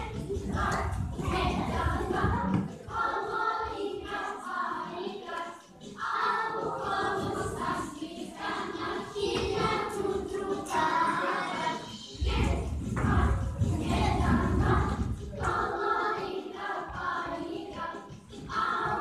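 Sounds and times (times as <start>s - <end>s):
children singing: 0.0s - 19.0s.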